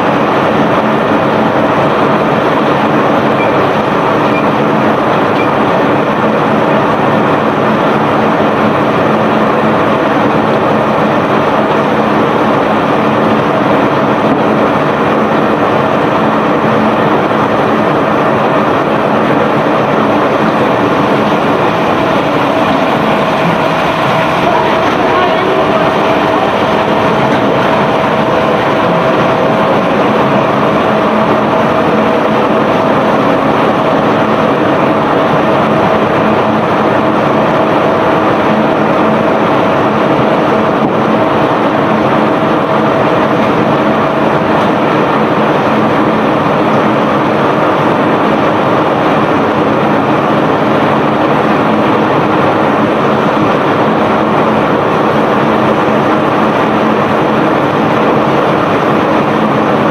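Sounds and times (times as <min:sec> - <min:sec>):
machinery whine: 0:00.0 - 0:59.9
unloading machinery running: 0:00.0 - 0:59.9.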